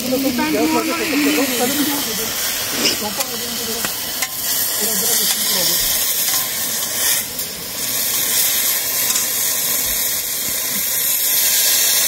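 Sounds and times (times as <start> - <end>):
pot cooking on gas stove hiss: 0.0 - 12.0.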